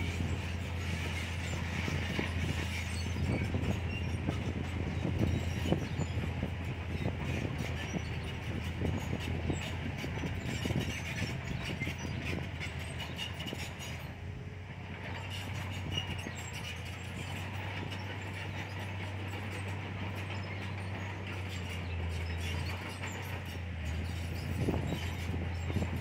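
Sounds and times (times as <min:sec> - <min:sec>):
bulldozer tracks clicking: 0:00.0 - 0:26.0
diesel engine low drone: 0:00.0 - 0:26.0.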